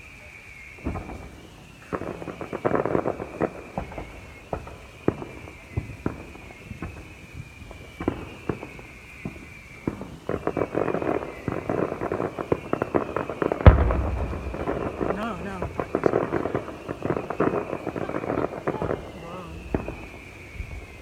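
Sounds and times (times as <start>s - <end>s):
fireworks crackling: 0.0s - 21.0s
fireworks bangs and pops: 0.8s - 21.0s.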